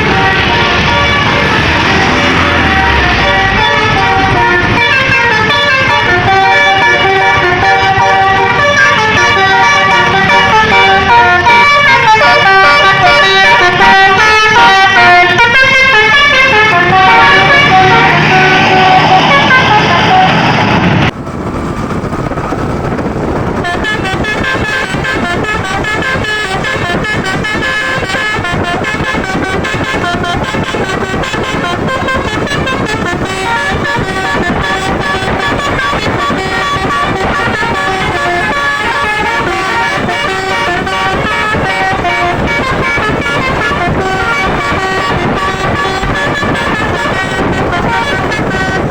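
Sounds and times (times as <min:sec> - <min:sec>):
multi-tone bus horn tune: 0:00.0 - 0:21.2, 0:23.3 - 0:48.9
road and engine noise: 0:00.0 - 0:48.9.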